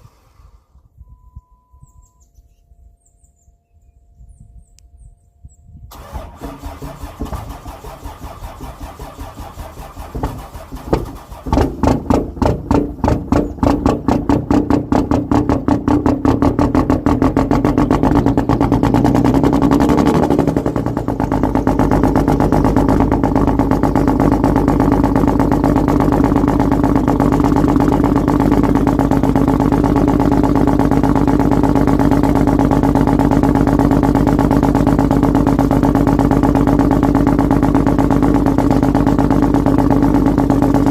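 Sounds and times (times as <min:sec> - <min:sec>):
diesel engine cranking and starting: 0:05.9 - 0:40.9
diesel engine idling: 0:05.9 - 0:40.9.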